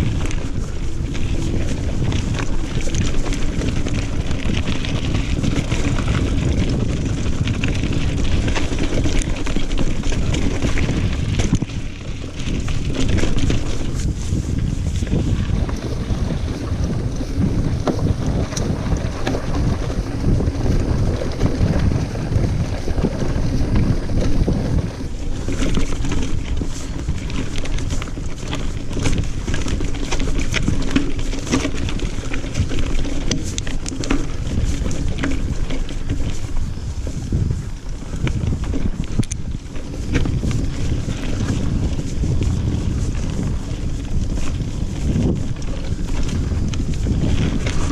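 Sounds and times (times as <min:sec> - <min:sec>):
bike clattering over rocks: 0:00.0 - 0:47.9
bike tyres rolling on dirt: 0:00.0 - 0:47.9
wind buffeting microphone: 0:00.0 - 0:47.9.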